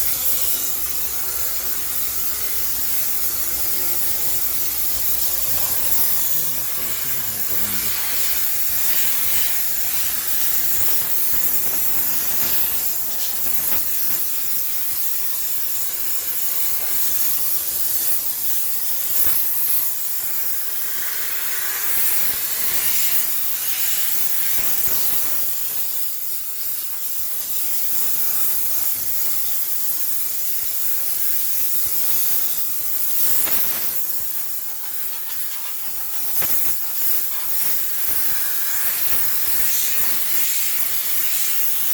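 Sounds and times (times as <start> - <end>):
steam cleaner hissing: 0.0 - 29.7, 31.1 - 41.9.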